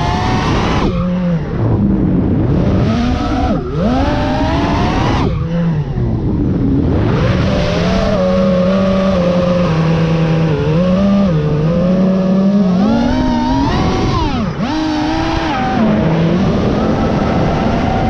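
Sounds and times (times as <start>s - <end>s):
quadcopter motors whining: 0.0s - 1.7s, 2.5s - 18.0s.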